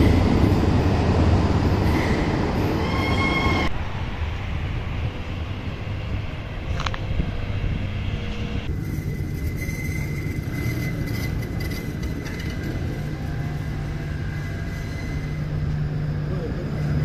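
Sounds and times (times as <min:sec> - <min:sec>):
tram high whine: 0:00.0 - 0:17.0
tram rumbling on track: 0:00.0 - 0:17.0.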